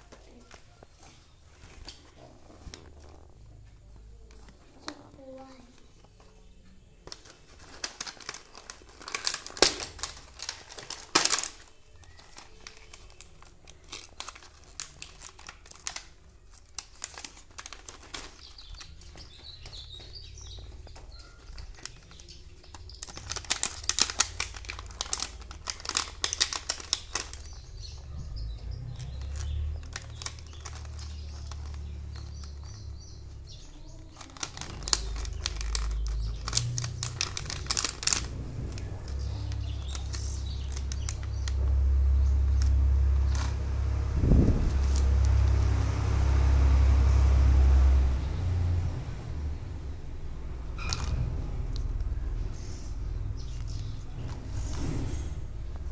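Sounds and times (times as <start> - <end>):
plastic blister pack crinkling: 0.0 - 6.4, 7.0 - 46.8, 50.7 - 55.9.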